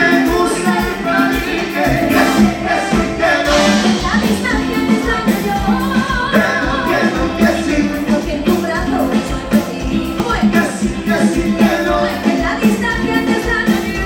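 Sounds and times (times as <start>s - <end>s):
live dance band through speakers: 0.0s - 14.0s.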